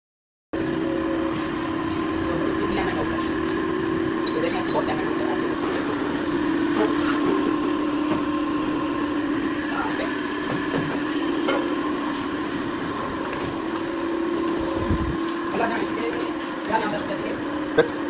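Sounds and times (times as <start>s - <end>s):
steady mechanical hum: 0.6s - 18.0s.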